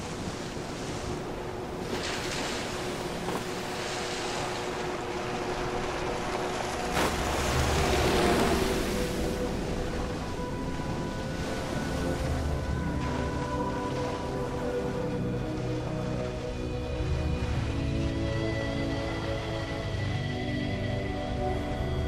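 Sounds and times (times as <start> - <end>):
ocean surf rushing: 0.0 - 20.8
jet ski engine running: 0.0 - 22.0.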